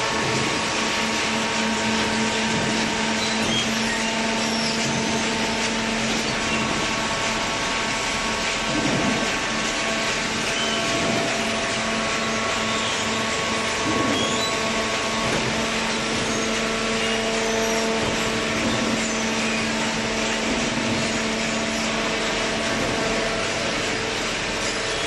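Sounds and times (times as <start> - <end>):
baling press machine drone: 0.0 - 25.0.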